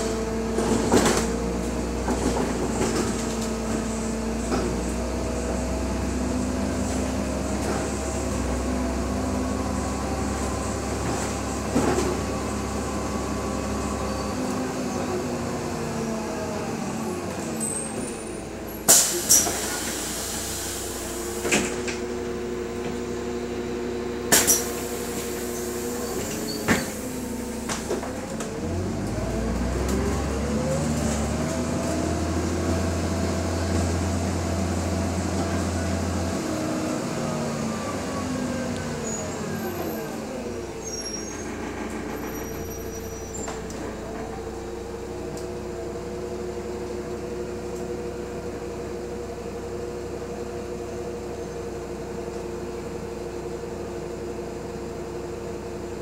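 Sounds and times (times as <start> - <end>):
bus engine idling and accelerating: 0.0 - 56.0.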